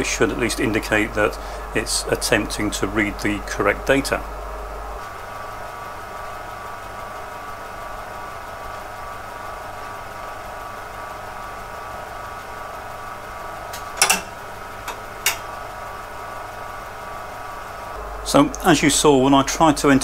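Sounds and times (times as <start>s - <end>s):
computer hum: 0.0s - 20.0s.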